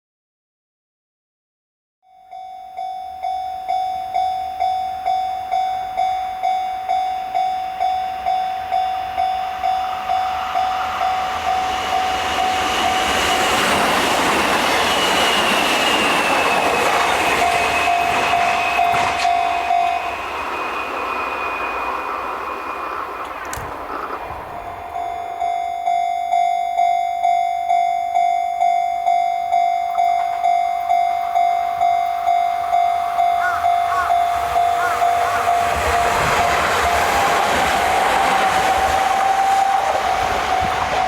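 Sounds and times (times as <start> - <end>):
level-crossing warning bell: 2.0 - 41.0
train passing: 2.8 - 41.0.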